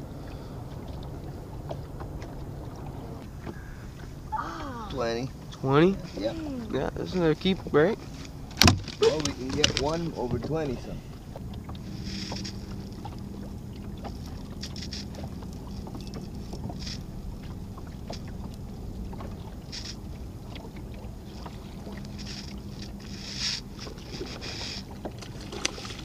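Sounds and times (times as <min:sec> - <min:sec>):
water rumbling around boat hull: 0:00.0 - 0:26.0.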